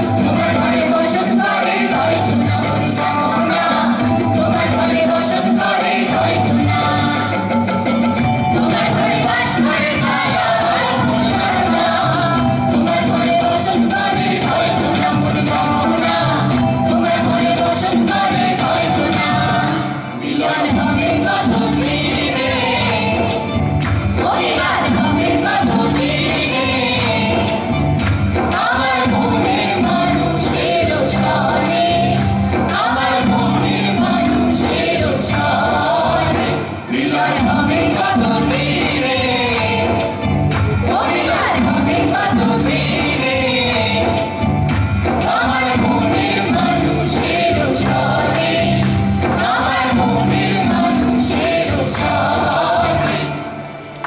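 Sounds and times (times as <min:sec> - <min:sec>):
instrumental accompaniment: 0:00.0 - 0:54.0
sharp percussion strikes: 0:00.0 - 0:54.0
voices singing folk song: 0:00.0 - 0:54.0.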